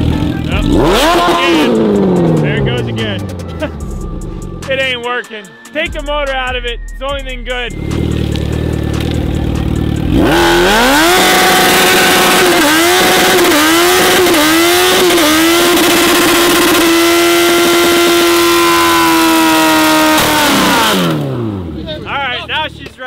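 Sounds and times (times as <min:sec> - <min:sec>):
motorcycle engine revving: 0:00.0 - 0:04.8, 0:07.7 - 0:22.9.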